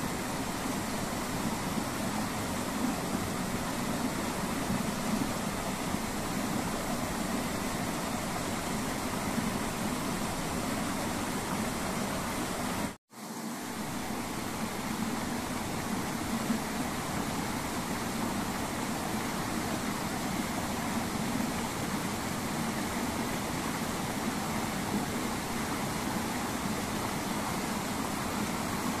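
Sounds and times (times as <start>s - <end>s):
stream babbling over rocks: 0.0s - 29.0s.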